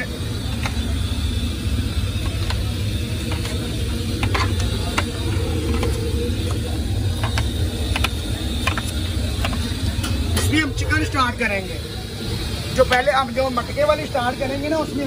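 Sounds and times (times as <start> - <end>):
low background rumble: 0.0 - 14.8.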